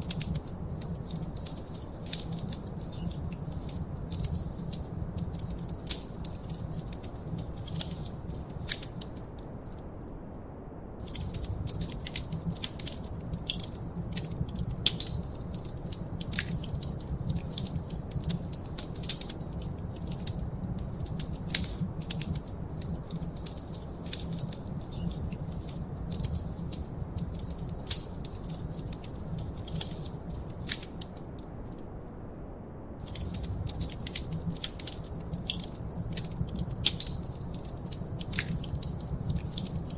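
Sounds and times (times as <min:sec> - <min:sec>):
wood fire crackling and popping: 0:00.0 - 0:09.8, 0:11.0 - 0:31.8, 0:33.0 - 0:39.9.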